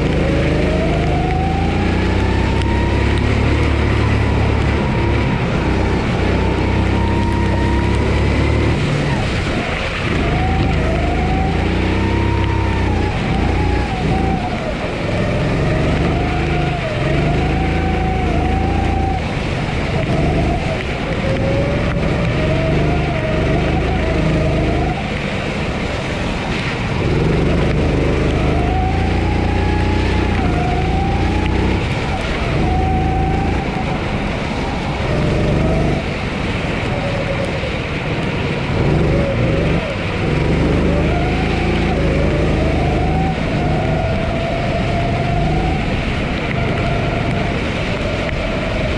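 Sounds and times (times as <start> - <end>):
kart engine revving: 0.0 - 36.8, 38.0 - 48.9.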